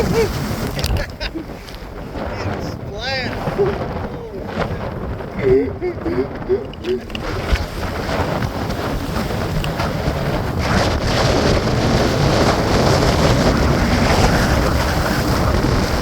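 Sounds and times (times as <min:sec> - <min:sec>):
water noise from moving boat: 0:00.0 - 0:16.0
wind on microphone: 0:00.0 - 0:16.0.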